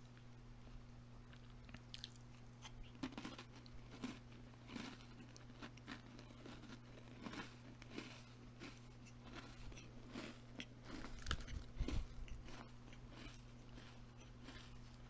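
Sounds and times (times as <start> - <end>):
person chewing crunchy food: 1.3 - 15.0.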